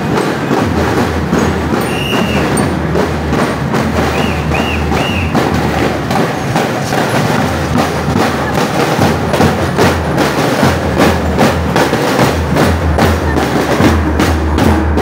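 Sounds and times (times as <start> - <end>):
marching drum corps: 0.0 - 15.0.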